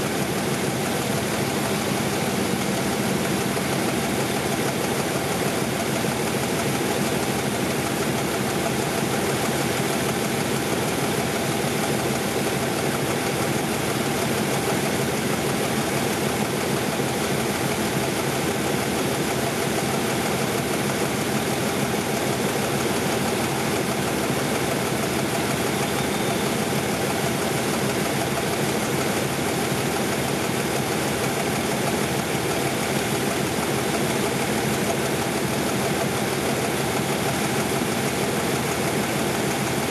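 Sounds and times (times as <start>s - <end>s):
diesel locomotive engine idling: 0.0s - 39.9s.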